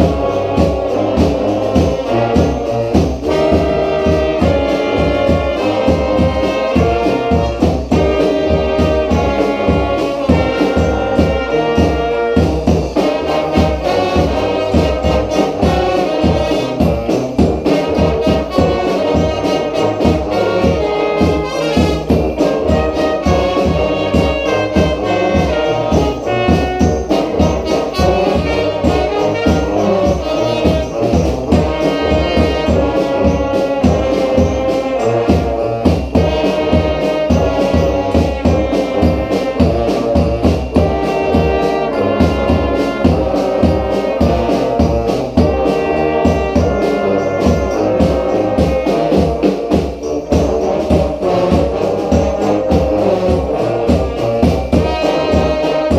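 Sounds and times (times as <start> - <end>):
bass drum and snare beat: 0.0 - 55.9
brass band playing: 0.0 - 55.9.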